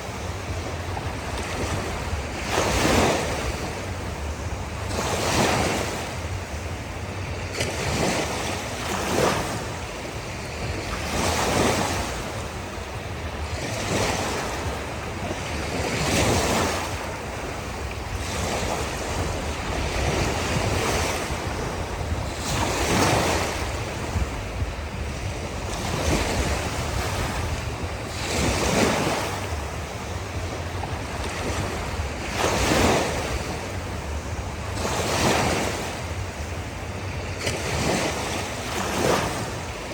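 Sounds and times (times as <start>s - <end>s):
low rumble of surf: 0.0s - 39.9s
ocean waves breaking on shore: 0.0s - 39.9s.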